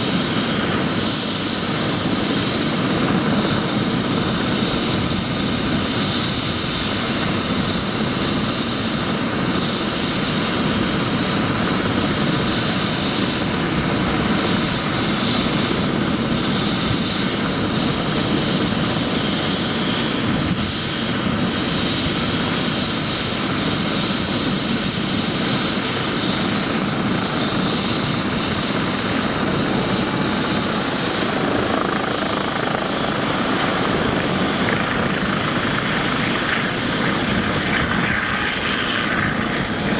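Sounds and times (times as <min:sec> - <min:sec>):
helicopter rotor rush: 0:00.0 - 0:39.9
high turbine whine: 0:00.0 - 0:39.9.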